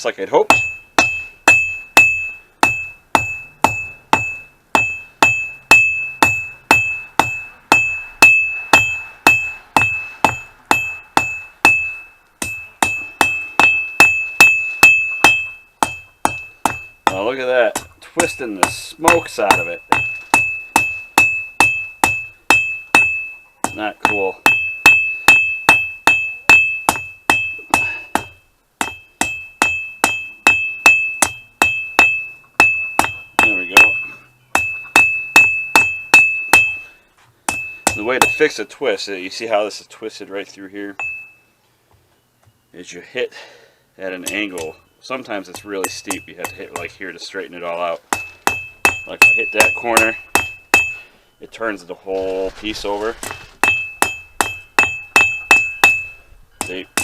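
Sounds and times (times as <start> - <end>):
hammer striking steel on anvil: 0.4 - 38.7, 44.2 - 47.2, 48.1 - 51.1, 53.2 - 57.0.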